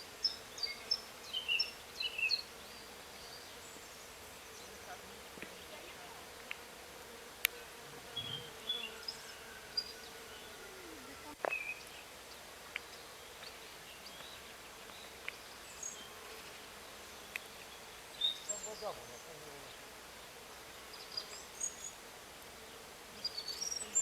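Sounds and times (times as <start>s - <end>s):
flying insect buzzing: 0.0s - 24.0s.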